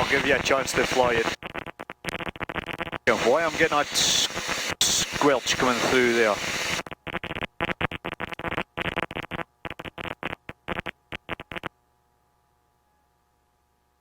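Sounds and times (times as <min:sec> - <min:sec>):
broken radio transmission chopping: 0:00.0 - 0:11.7.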